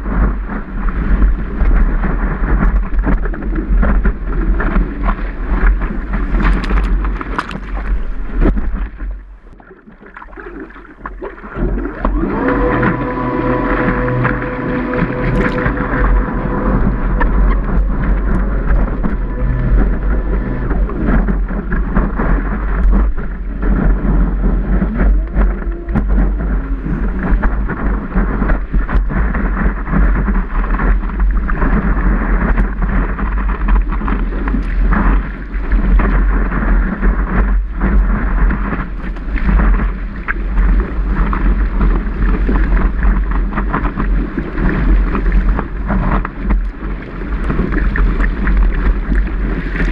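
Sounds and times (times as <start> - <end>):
wind buffeting microphone: 0.0 - 49.9
water rushing and spraying: 0.9 - 49.9.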